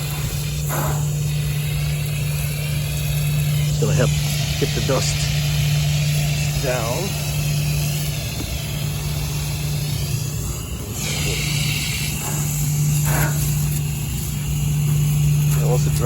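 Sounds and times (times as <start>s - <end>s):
garden hose spraying water: 0.0s - 16.0s
low machinery hum: 0.0s - 16.0s.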